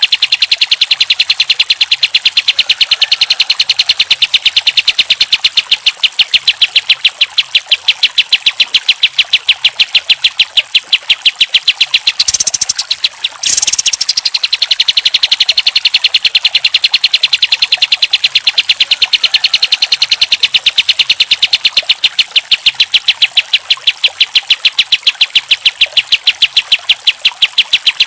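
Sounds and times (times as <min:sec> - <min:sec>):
bulbul singing rapid notes: 0:00.0 - 0:28.0.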